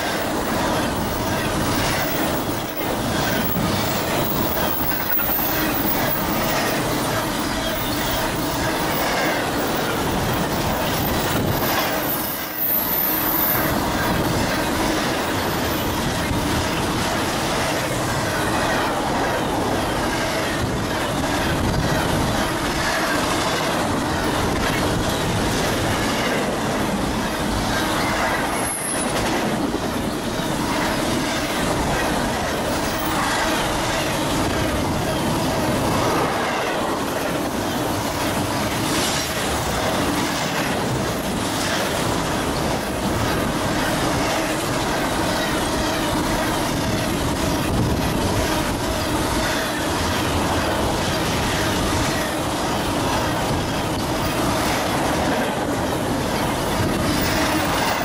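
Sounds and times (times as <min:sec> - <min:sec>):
freight train rumbling and rattling: 0:00.0 - 0:58.0.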